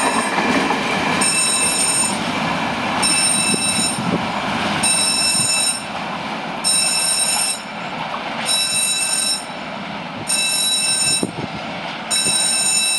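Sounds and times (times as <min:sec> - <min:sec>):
freight train rolling rumble: 0:00.0 - 0:12.9.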